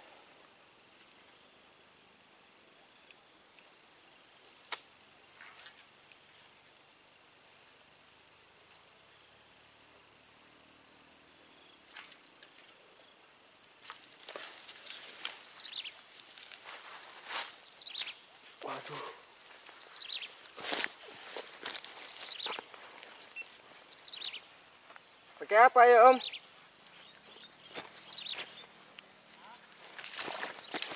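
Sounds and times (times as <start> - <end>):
high-pitched insect chorus: 0.0 - 30.9.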